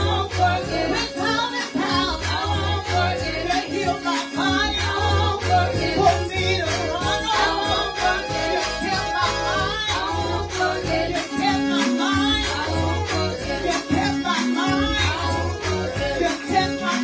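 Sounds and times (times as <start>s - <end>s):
instrumental backing with bass and beat: 0.0s - 17.0s
woman singing into a microphone: 0.0s - 17.0s.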